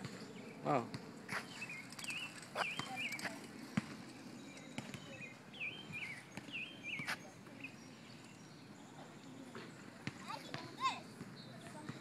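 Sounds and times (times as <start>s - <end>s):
bird chirping: 0.1s - 10.7s.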